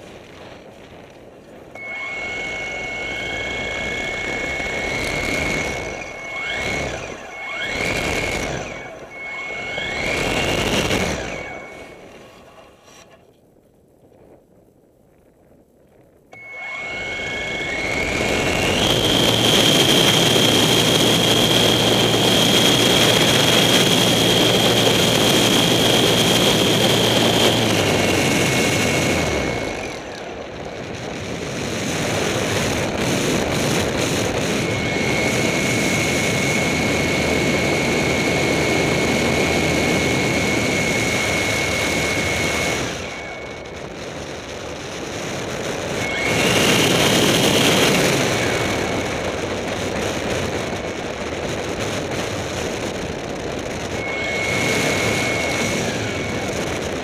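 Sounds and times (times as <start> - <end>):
light aircraft engine and propeller: 0.0 - 14.8, 15.9 - 57.0.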